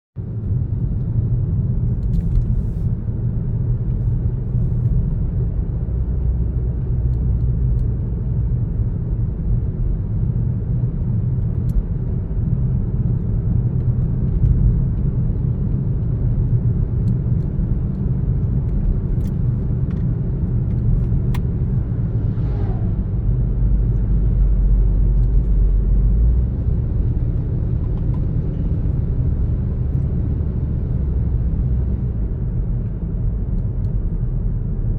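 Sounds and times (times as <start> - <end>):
car tyres and engine rumble: 0.2 - 34.9.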